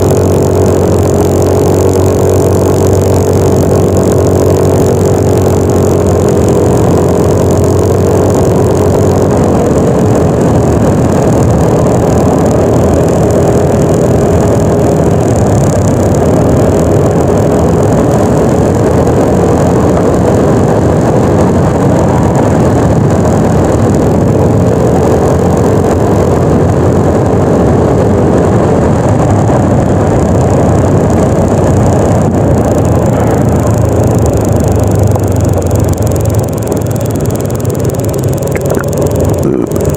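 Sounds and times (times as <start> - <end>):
loud steady rushing noise: 0.0 - 39.9
scooter engine humming: 0.0 - 39.9.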